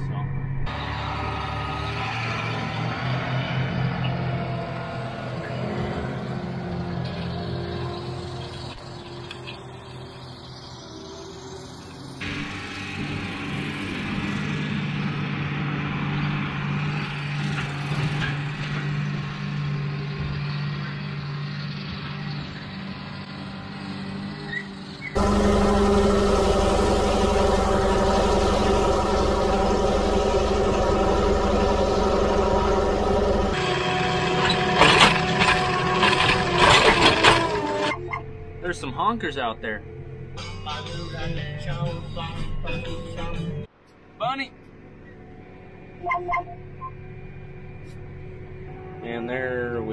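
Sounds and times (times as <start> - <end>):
tractor diesel engine running: 0.0 - 24.3, 25.1 - 40.8.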